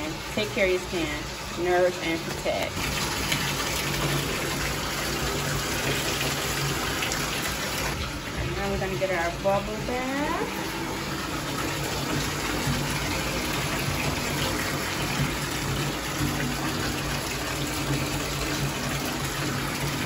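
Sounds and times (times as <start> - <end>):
water gushing into bathtub: 0.0 - 20.0.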